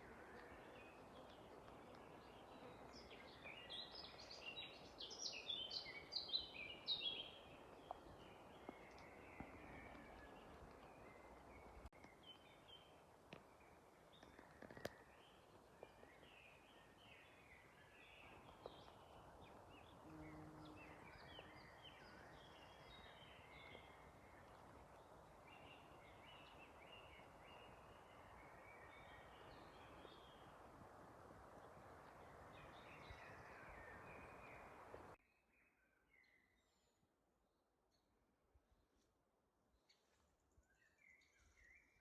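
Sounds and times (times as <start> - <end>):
small songbirds chirping: 0.0 - 37.1, 39.8 - 42.0.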